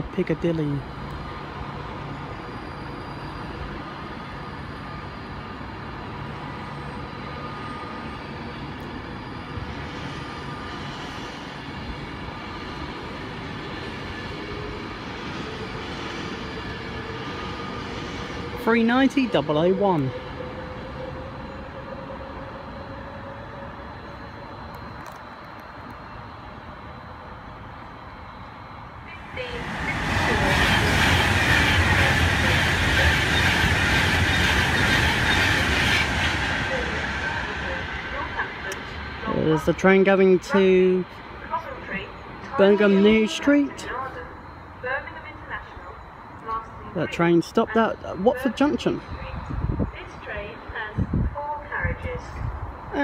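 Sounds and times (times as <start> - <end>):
electric train rumbling: 0.0 - 53.0.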